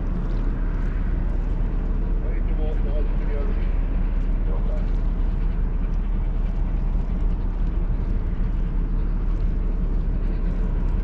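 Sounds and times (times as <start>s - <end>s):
large ferry rumbling: 0.0s - 11.0s.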